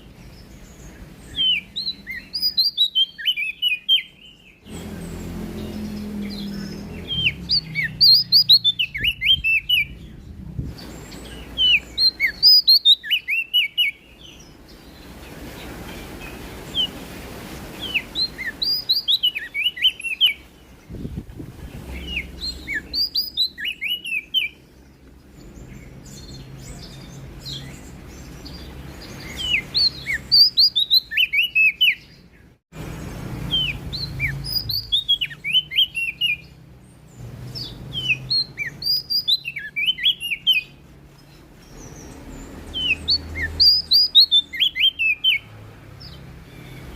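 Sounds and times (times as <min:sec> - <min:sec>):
leaf warbler singing: 0:00.0 - 0:46.9.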